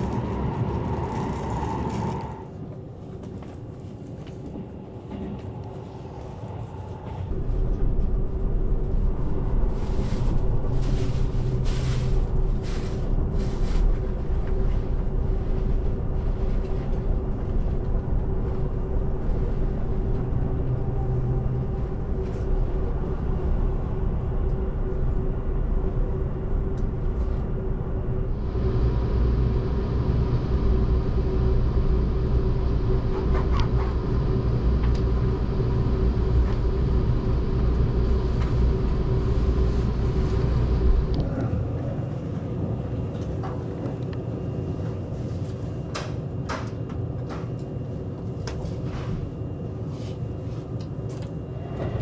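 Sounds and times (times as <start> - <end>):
constant hum: 0.0 - 52.0
train wheels rumbling on rail: 0.0 - 52.0.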